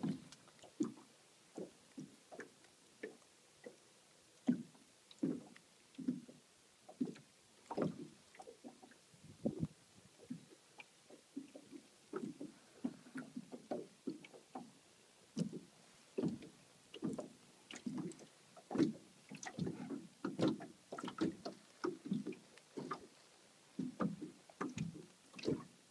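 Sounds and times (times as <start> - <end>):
waves lapping against boat hull: 0.0 - 25.9.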